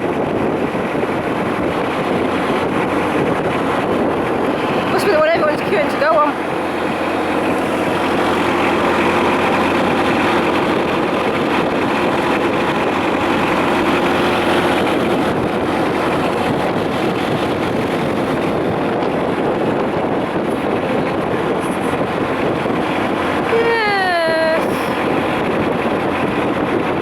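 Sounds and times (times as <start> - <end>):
boat engine humming: 0.0 - 27.0
wind buffeting microphone: 0.0 - 27.0.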